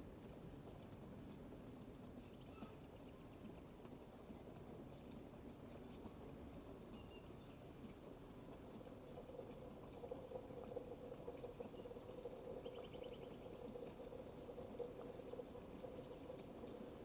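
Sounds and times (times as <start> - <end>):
faint rain pattering: 0.0 - 17.0.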